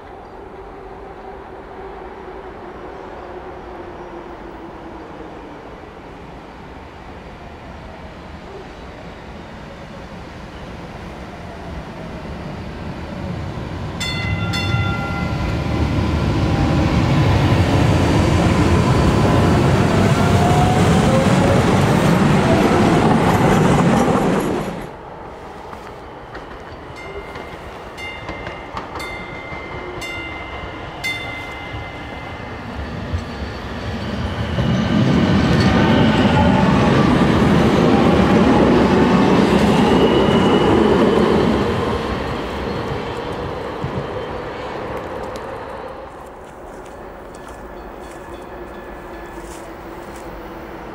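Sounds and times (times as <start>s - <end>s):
light-rail train passing: 0.0s - 50.9s.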